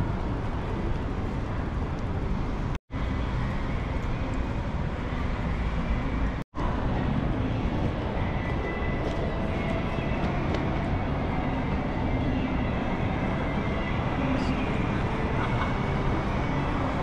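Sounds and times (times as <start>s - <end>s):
street noise rumble: 0.0s - 17.0s.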